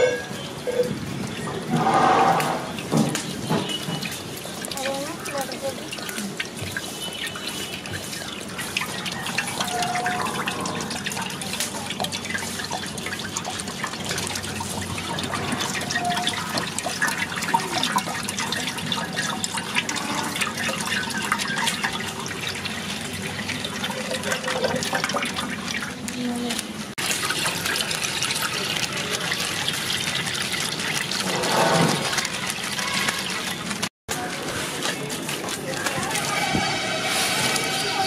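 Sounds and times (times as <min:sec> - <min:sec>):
milk pouring and splashing: 0:01.2 - 0:36.4.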